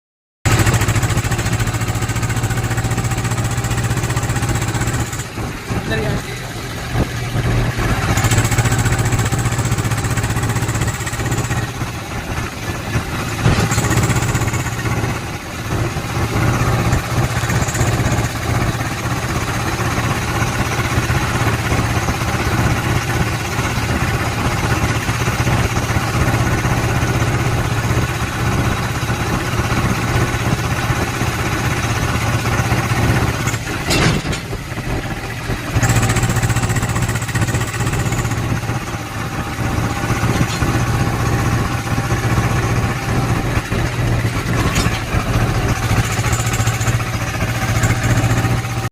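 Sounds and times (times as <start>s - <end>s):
tractor diesel engine running: 0.5s - 48.9s.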